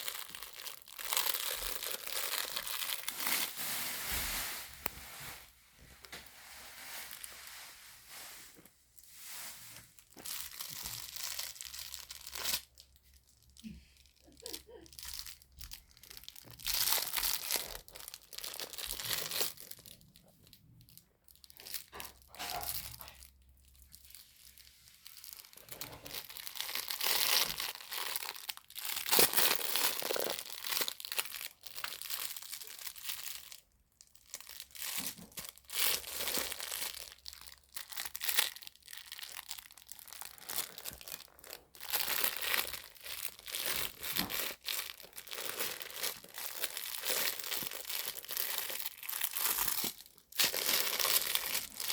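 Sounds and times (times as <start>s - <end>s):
cloth book pages crinkling: 0.0s - 51.9s.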